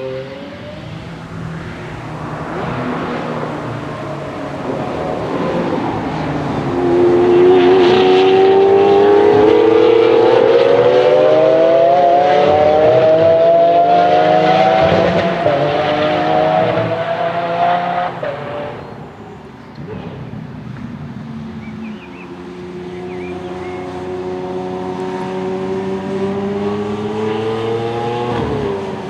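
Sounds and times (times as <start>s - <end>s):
car engine accelerating hard: 0.0s - 18.9s, 19.9s - 29.0s.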